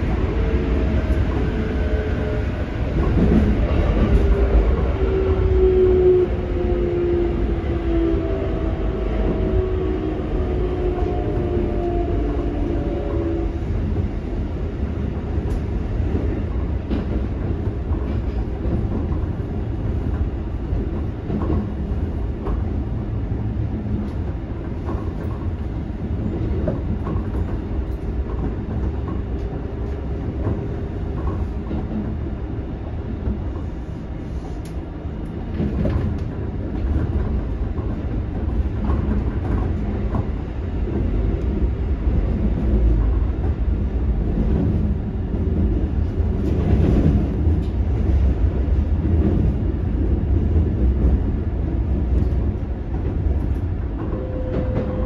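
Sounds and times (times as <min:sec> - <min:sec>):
rail joint clicks: 0:00.0 - 0:55.0
train wheels rumbling on rail: 0:00.0 - 0:55.0.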